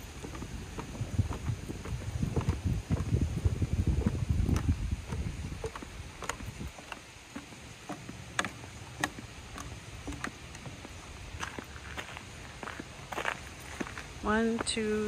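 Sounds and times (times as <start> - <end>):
footsteps on wooden dock: 0.0 - 15.0
wind buffeting microphone: 0.0 - 15.0.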